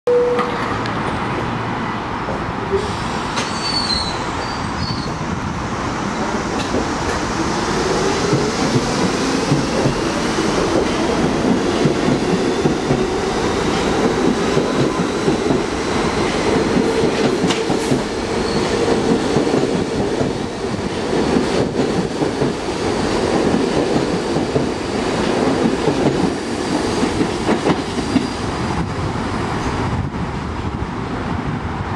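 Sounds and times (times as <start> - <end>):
subway train rumbling: 0.1 - 31.9.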